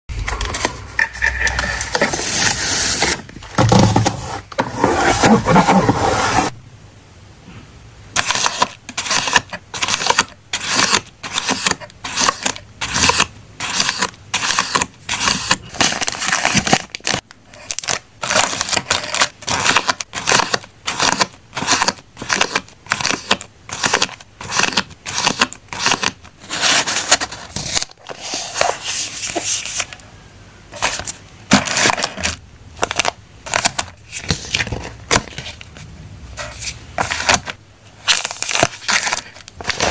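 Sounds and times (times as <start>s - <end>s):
paper scraping and rustling: 0.1s - 6.6s, 8.2s - 30.0s, 30.7s - 39.9s.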